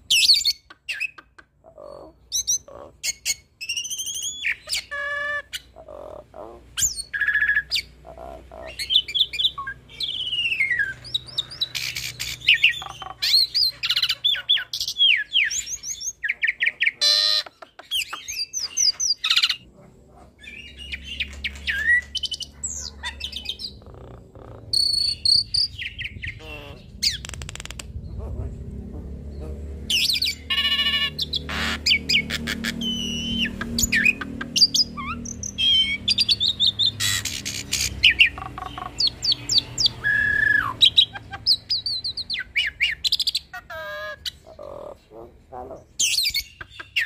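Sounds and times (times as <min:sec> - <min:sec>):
starling singing: 0:00.0 - 0:47.0.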